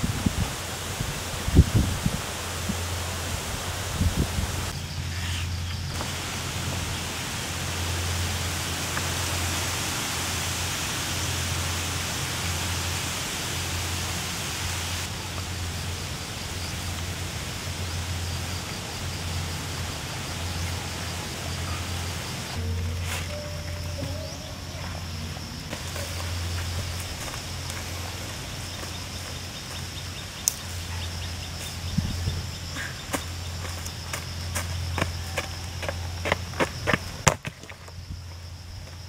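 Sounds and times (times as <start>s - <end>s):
rushing outdoor noise: 0.0s - 39.0s.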